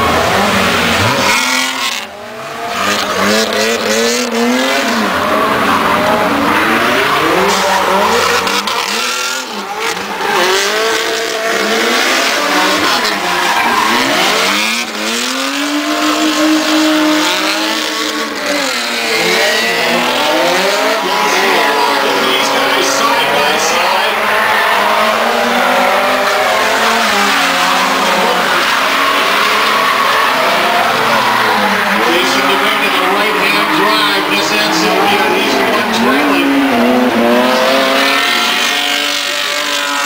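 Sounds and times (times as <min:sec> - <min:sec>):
car engine revving: 0:00.0 - 0:40.0
tyres squealing: 0:02.7 - 0:40.0.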